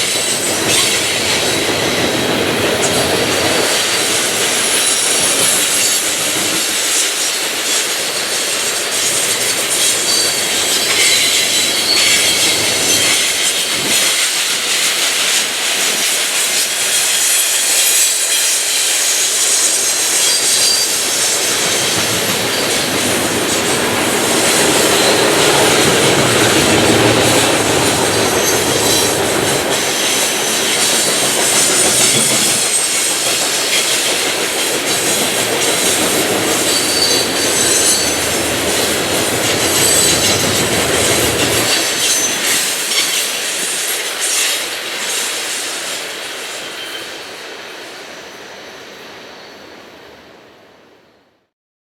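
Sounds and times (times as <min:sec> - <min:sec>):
faint high wheel squeal: 0:00.0 - 0:14.9, 0:16.0 - 0:34.3, 0:34.9 - 0:47.4
clacking over rail joints: 0:00.0 - 0:45.1
steel wheels rumbling on rail: 0:00.0 - 0:49.3.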